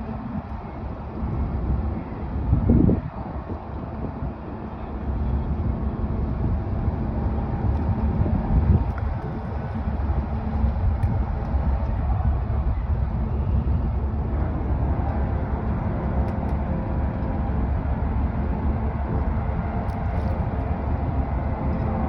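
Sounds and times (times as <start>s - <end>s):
faint steady hum: 0.0s - 22.0s
ferry engines rumbling: 0.0s - 22.0s.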